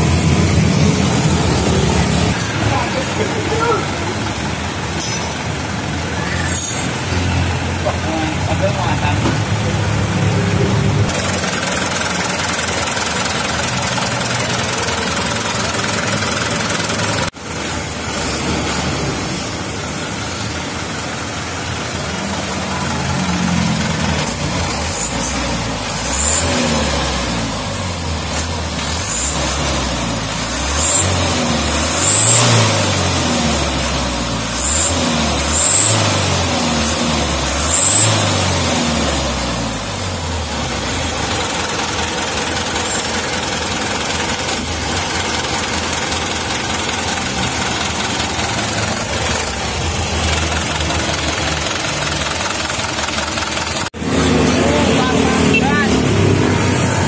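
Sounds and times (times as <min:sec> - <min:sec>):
diesel truck engine revving: 0:00.0 - 0:57.0.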